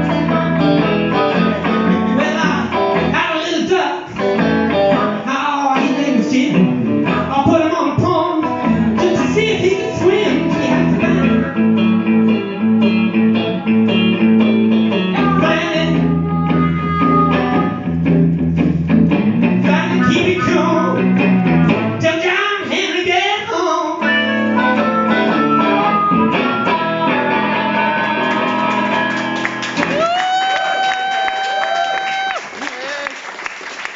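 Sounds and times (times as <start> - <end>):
electric blues guitars: 0.0 - 30.4.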